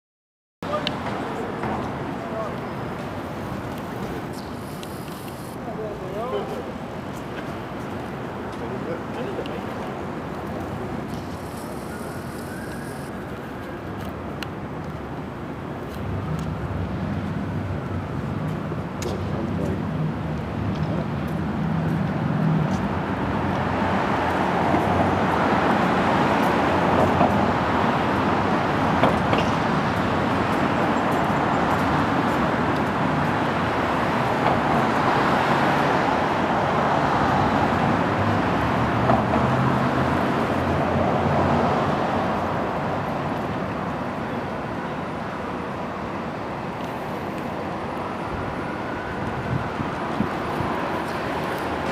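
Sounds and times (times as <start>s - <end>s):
road traffic rush: 0.6s - 51.9s.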